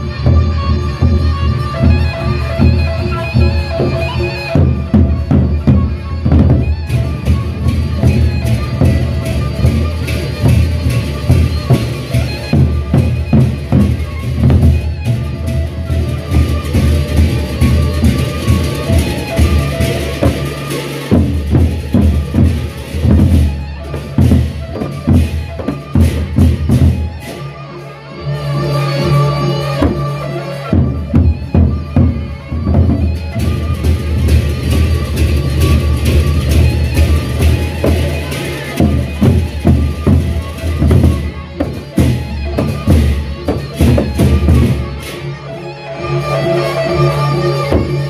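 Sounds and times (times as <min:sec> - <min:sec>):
ringing metal percussion: 0:00.0 - 0:48.0
barrel drums beaten in driving rhythm: 0:00.1 - 0:27.3, 0:30.7 - 0:45.1.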